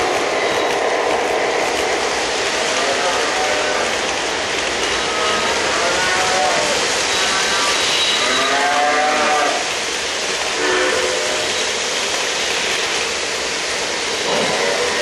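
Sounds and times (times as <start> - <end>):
electronic train calls: 0.0 - 15.0
model train wheels rumbling: 0.0 - 15.0.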